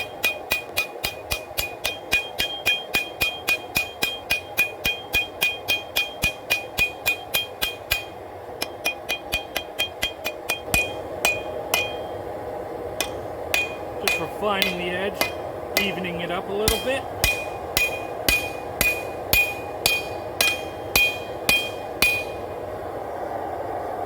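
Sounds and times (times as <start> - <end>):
hammer striking steel on anvil: 0.0 - 12.2, 13.0 - 22.6.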